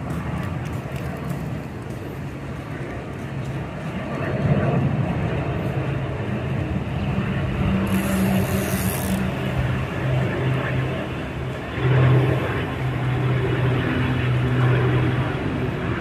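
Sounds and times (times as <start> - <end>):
airplane rumble overhead: 0.0 - 16.0.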